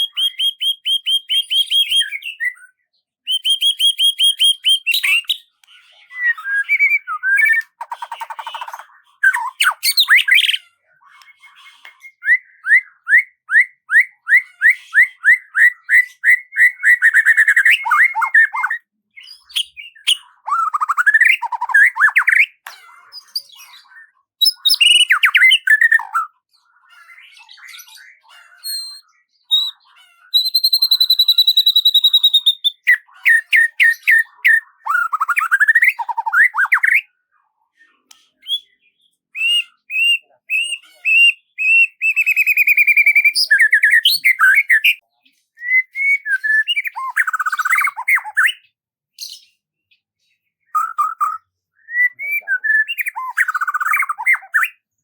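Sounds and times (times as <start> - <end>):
songbird singing: 0.0 - 37.1, 38.0 - 50.1, 50.7 - 54.9.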